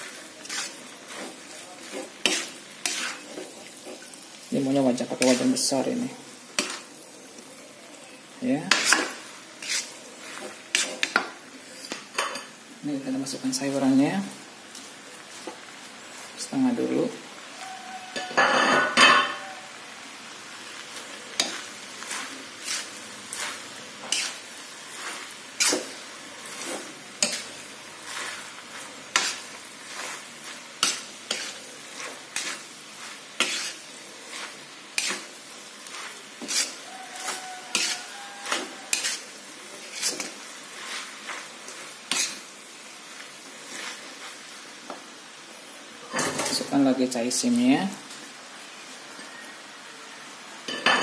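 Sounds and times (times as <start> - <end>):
metal spatula scraping wok: 0.0 - 7.7, 8.3 - 19.8, 20.6 - 44.8
low sizzle: 0.0 - 51.0.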